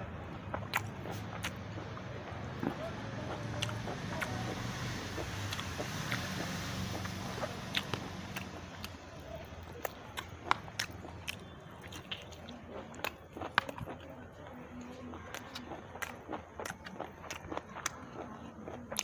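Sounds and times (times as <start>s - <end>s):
person biting and chewing: 0.0s - 14.0s, 15.2s - 19.0s.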